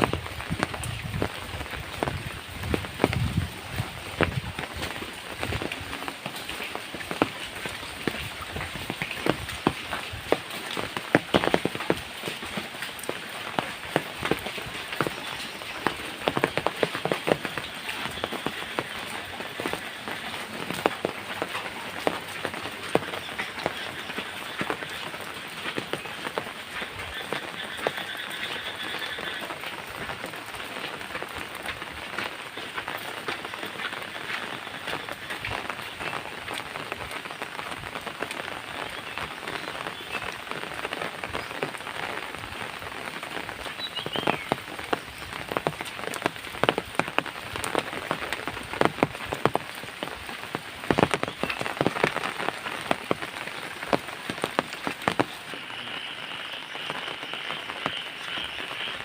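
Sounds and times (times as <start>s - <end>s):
close raindrops hitting: 0.0s - 59.0s
steady rain falling: 0.0s - 59.0s.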